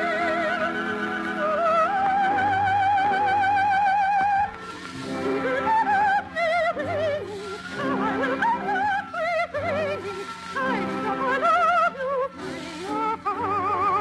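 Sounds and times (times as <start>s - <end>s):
operatic solo singing: 0.0s - 14.0s
orchestral accompaniment: 0.0s - 14.0s.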